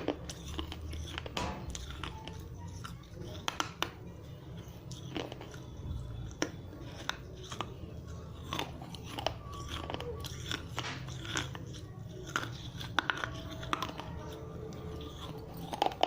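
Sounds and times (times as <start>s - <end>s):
clay crunching between teeth: 0.0s - 16.0s.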